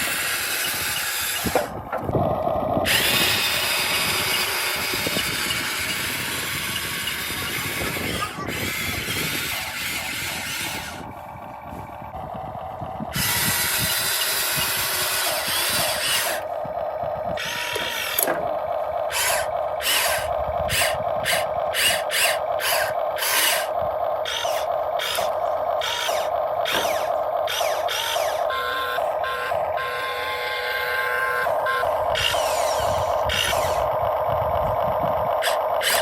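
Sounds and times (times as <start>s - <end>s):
small electric motors whirring: 0.0s - 2.2s, 2.8s - 11.1s, 13.1s - 36.0s.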